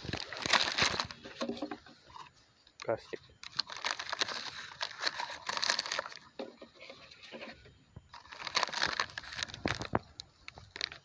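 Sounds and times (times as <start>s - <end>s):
plastic bag crinkling and rustling: 0.0s - 11.0s.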